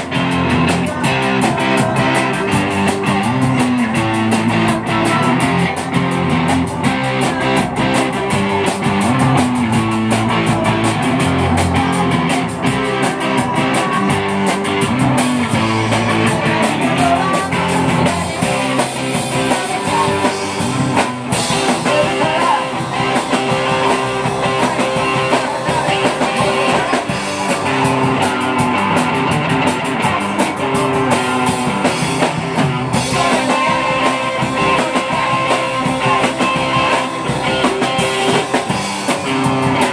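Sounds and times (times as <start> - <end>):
drum kit: 0.0 - 39.9
electric guitars strummed: 0.0 - 39.9
person singing: 0.0 - 39.9.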